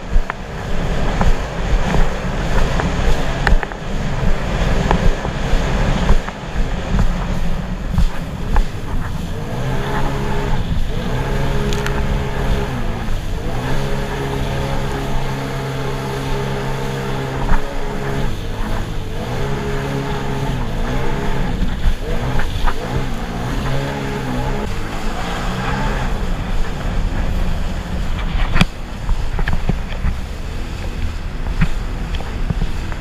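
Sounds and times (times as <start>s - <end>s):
watercraft engine running: 0.0s - 33.0s
wind and water rushing: 0.0s - 33.0s.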